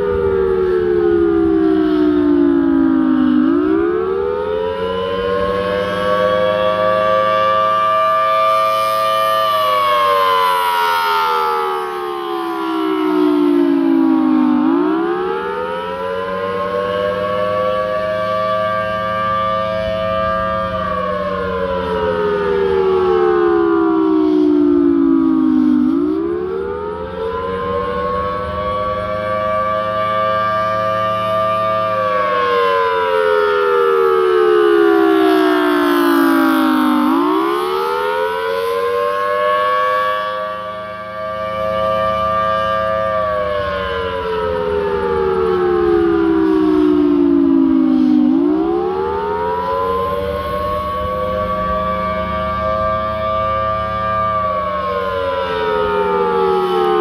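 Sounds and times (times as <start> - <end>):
warning siren wailing: 0.0 - 57.0.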